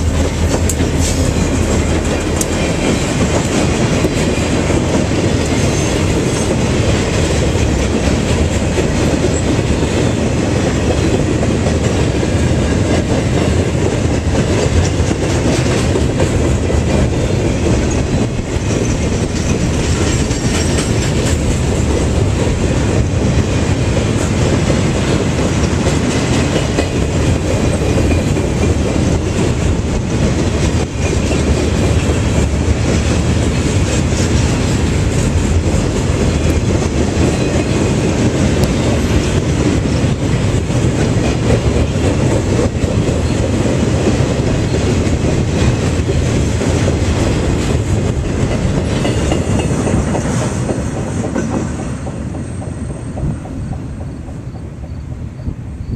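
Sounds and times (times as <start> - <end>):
train wheels rolling on rails: 0.0 - 55.9.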